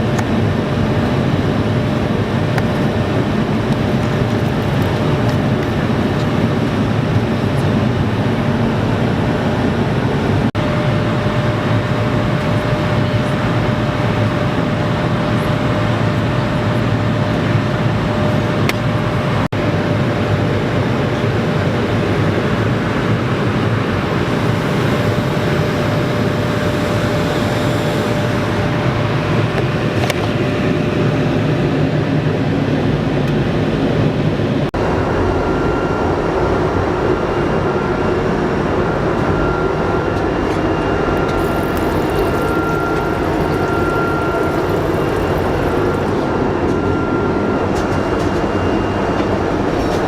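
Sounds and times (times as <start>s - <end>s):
airflow rush in aircraft cabin: 0.0s - 50.0s
jet engines droning: 0.0s - 50.0s.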